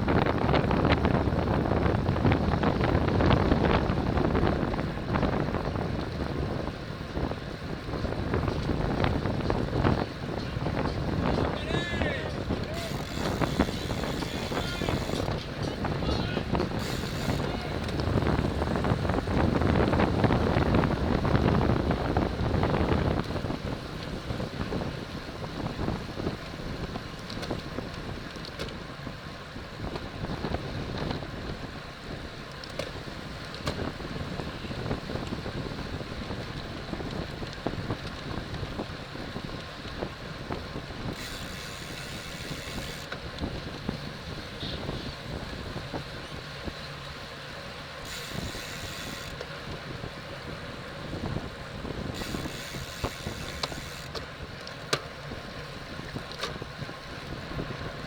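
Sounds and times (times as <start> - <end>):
wind rushing over microphone: 0.0 - 47.1, 47.9 - 58.0.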